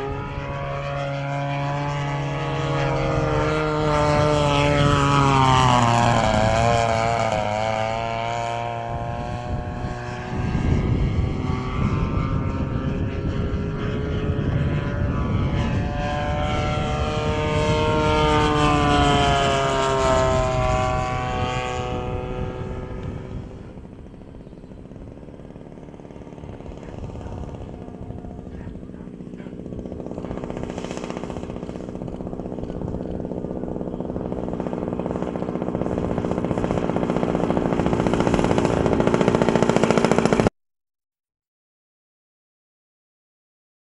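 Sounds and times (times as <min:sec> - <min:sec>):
model airplane engine flying past: 0:00.0 - 0:40.5
model engine running at low throttle: 0:00.0 - 0:40.5.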